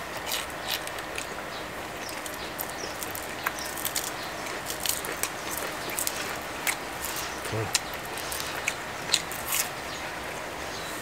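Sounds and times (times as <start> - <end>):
people chewing crispy food: 0.0 - 10.4.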